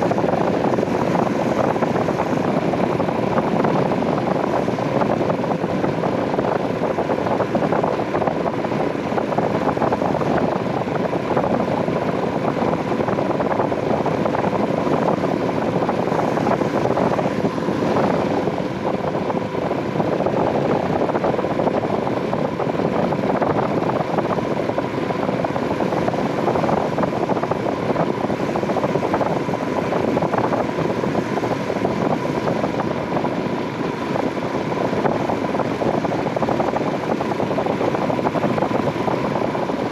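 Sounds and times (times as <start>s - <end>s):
faint steady whine: 0.0s - 39.9s
riding noise rush: 0.0s - 39.9s.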